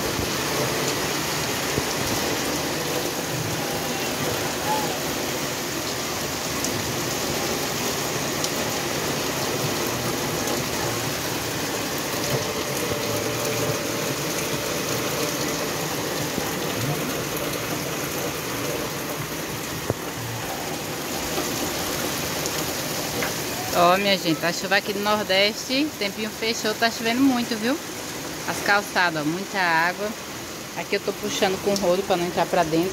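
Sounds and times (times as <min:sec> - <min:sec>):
heavy rain on pavement: 0:00.0 - 0:32.9.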